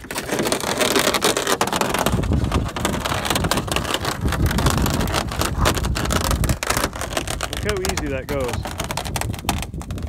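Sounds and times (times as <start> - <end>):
canoe hull scraping across ice: 0.0 - 10.0.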